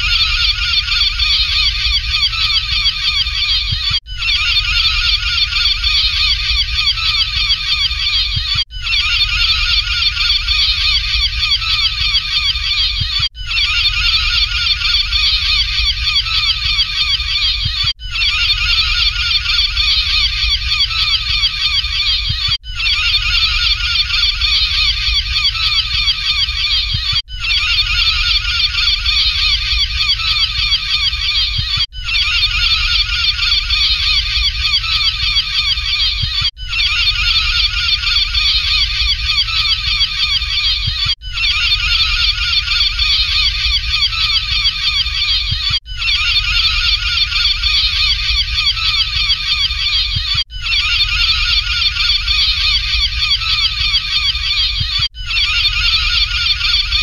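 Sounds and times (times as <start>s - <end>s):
gulls calling: 0.0s - 57.0s.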